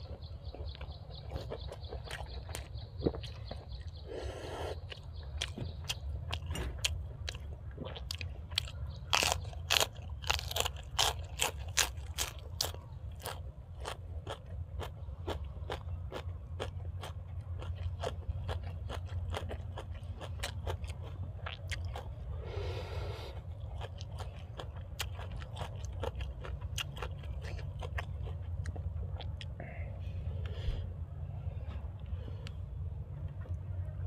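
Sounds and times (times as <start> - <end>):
crunching raw vegetables: 0.0 - 29.6
low hum: 0.0 - 34.0.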